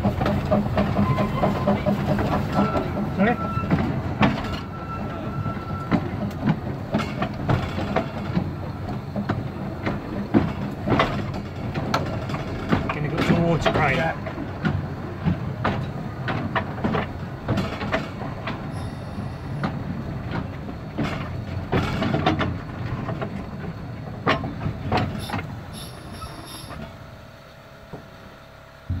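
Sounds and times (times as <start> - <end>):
steam locomotive running slowly: 0.0 - 29.0
wheels clanking over rail joints: 0.0 - 29.0.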